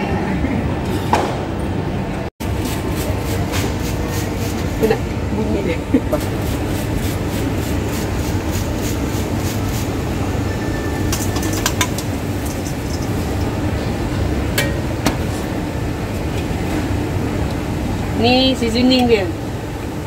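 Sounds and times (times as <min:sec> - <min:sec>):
low machinery hum: 0:00.0 - 0:20.0.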